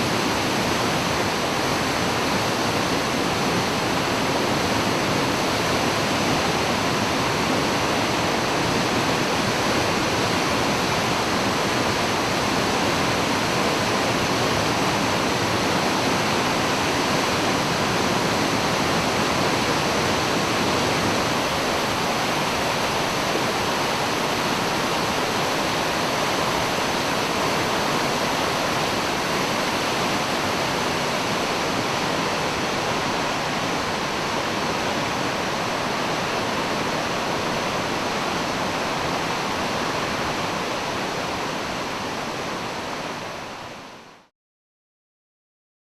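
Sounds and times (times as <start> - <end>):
waterfall rushing: 0.0 - 44.3.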